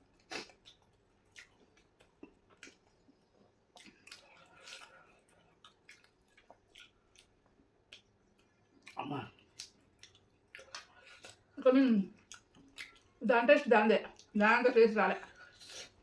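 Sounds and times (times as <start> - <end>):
wet chewing and mouth clicks: 0.0 - 14.4.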